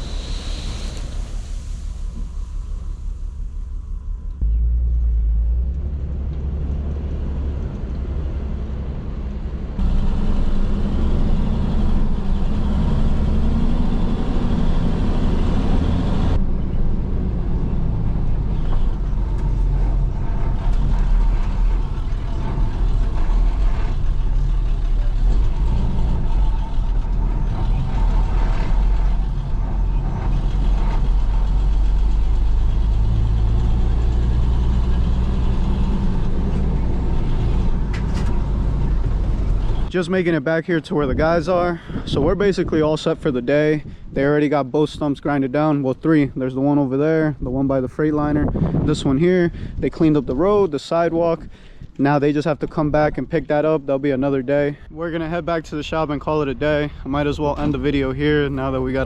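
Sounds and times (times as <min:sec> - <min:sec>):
road noise: 0:00.0 - 0:59.0
truck engine rumble: 0:00.0 - 0:59.0.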